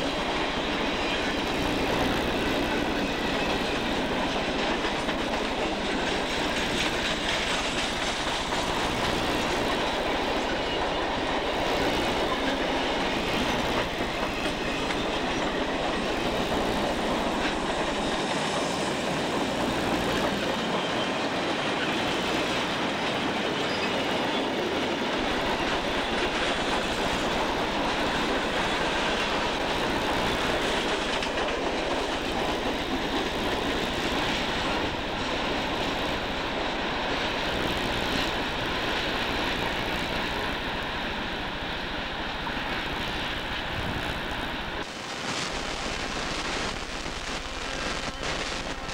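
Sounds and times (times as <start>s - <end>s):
freight cars rumbling on rails: 0.0s - 48.9s.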